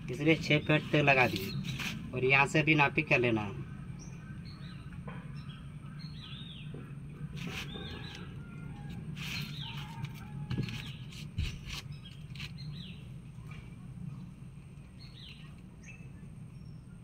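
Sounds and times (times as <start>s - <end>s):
low steady hum: 0.0s - 17.0s
small birds chirping: 0.1s - 17.0s.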